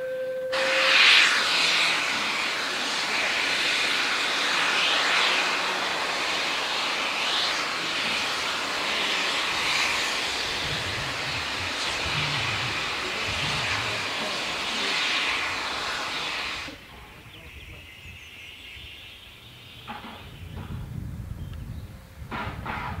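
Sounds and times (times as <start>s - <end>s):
steam locomotive hissing roar: 0.0s - 21.0s.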